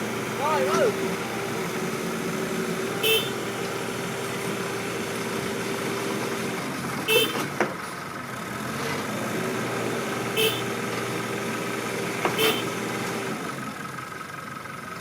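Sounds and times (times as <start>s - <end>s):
mini excavator engine running: 0.0s - 15.0s.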